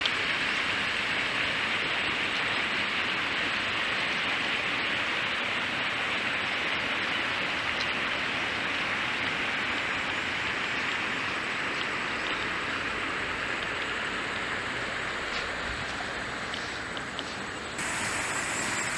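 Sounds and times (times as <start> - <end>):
stream water rushing: 0.0 - 18.9.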